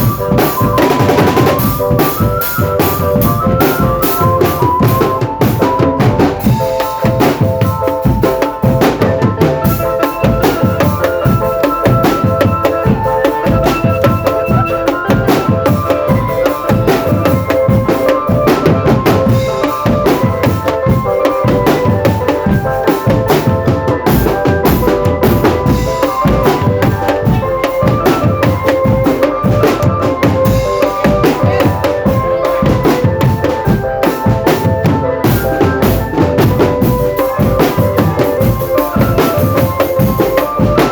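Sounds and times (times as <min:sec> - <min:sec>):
held melody: 0:00.0 - 0:40.9
snare and bass drums beating: 0:00.0 - 0:40.9.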